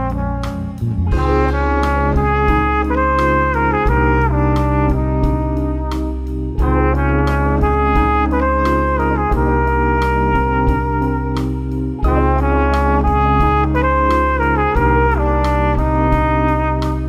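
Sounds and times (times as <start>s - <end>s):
bass line: 0.0s - 17.0s
brass instrument melody: 0.0s - 17.0s
steady drum beat: 0.0s - 17.0s.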